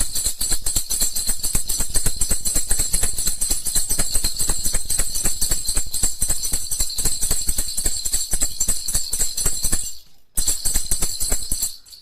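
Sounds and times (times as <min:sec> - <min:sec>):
baby rattle shaken fast: 0:00.0 - 0:12.0.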